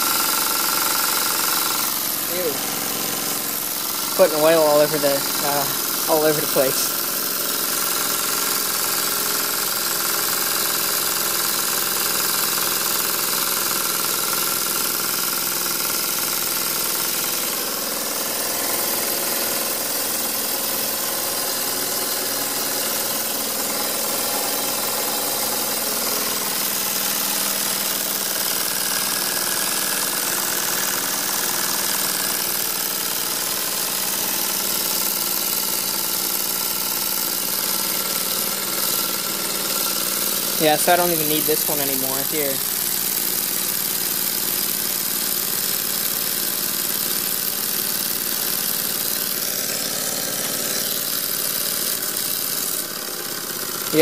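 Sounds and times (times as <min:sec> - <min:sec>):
steam engine running fast: 0:00.0 - 0:54.0.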